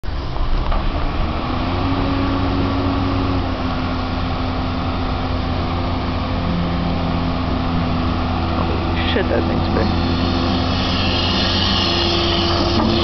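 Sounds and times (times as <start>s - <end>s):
excavator diesel engine running: 0.0s - 13.0s
low engine tone: 0.0s - 13.0s.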